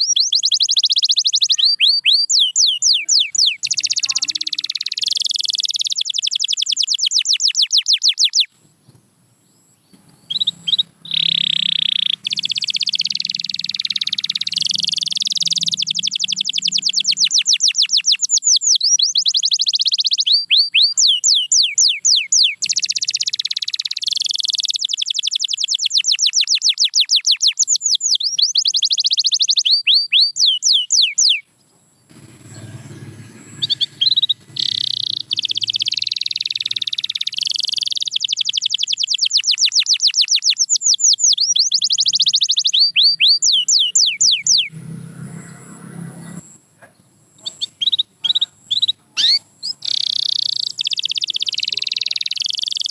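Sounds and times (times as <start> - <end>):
canary trilling: 0.0 - 8.5, 9.9 - 31.4, 32.1 - 52.9.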